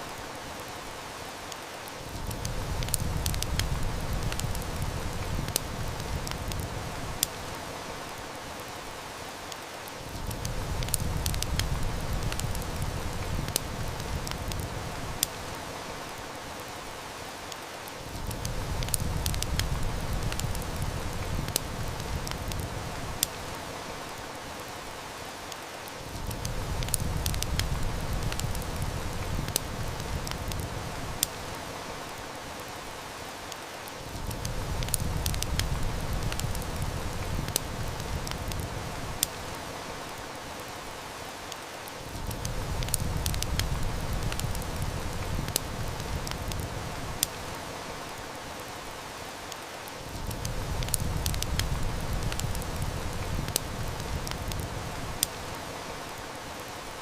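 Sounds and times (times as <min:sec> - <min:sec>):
heavy rain hiss: 0:00.0 - 0:57.0
wood fire crackling: 0:00.0 - 0:57.0.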